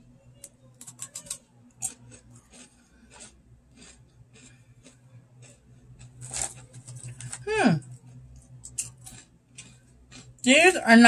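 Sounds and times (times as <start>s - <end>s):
wafer crunching while chewed: 0.8s - 10.5s.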